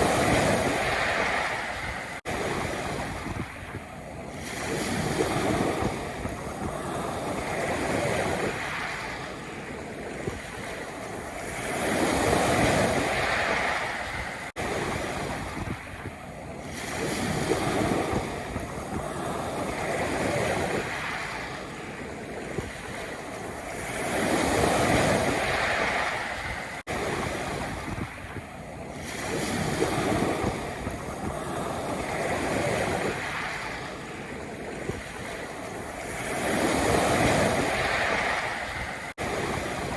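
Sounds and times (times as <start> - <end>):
waves breaking on pebble beach: 0.0 - 39.9.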